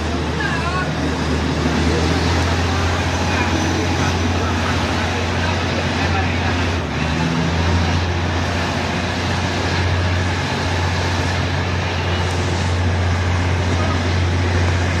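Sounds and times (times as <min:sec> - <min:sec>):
passenger trains passing: 0:00.0 - 0:15.0
wheel and wind rush: 0:00.0 - 0:15.0.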